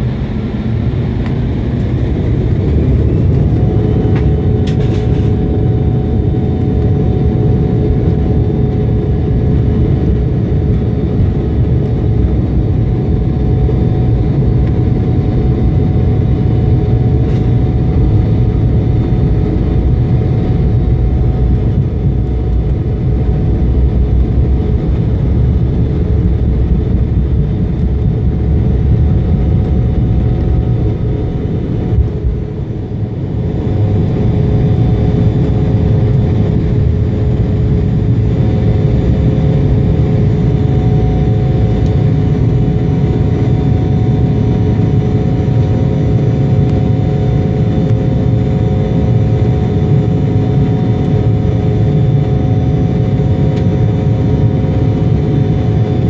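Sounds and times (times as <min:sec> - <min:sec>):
jet engine whine: 0:00.0 - 0:56.0
jet engines rumbling in cabin: 0:00.0 - 0:56.0.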